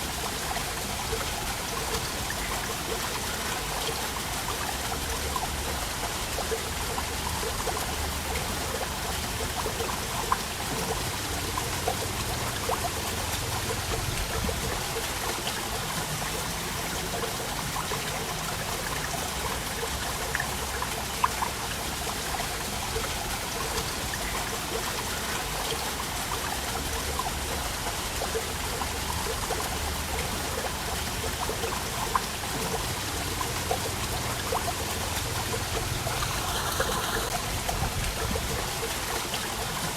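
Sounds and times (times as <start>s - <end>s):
waterfall rushing and splashing: 0.0s - 39.9s
sharp water splashes: 3.6s - 39.9s.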